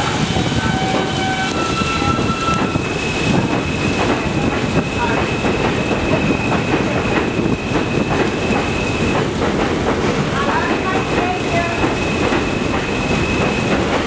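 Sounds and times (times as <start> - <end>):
subway train rumbling: 0.0 - 14.0
train wheels clacking: 0.0 - 14.0.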